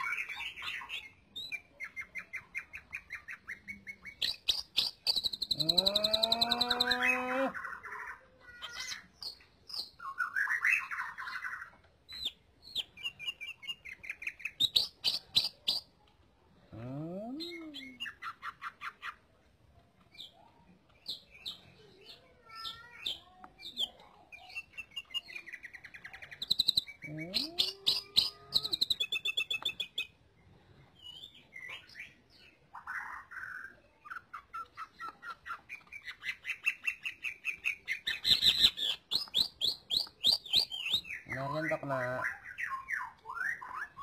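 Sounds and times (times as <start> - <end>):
bird singing chirps and trills: 0.0 - 44.0.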